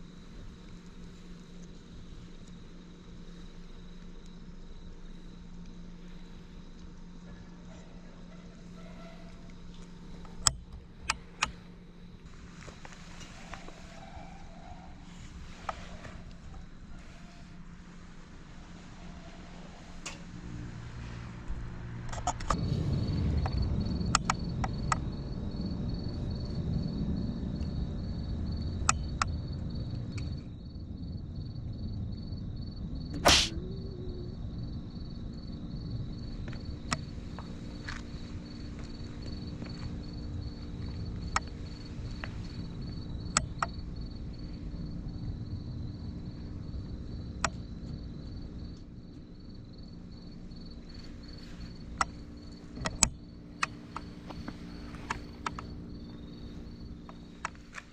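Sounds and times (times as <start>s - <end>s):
cricket trilling: 0.0s - 57.9s.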